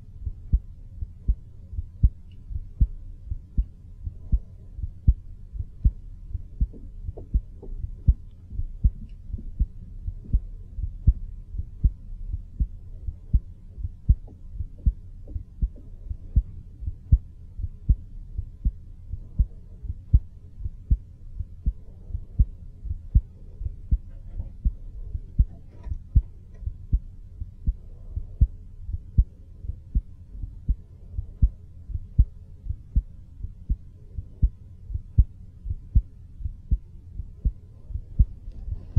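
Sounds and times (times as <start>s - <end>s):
faint low hum: 0.0s - 38.9s
heartbeat thumps: 0.0s - 38.9s.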